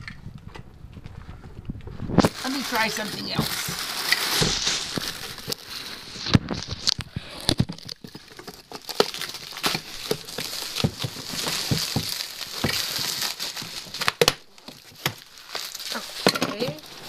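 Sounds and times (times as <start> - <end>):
bubble wrap rustling and crinkling: 1.9 - 17.0.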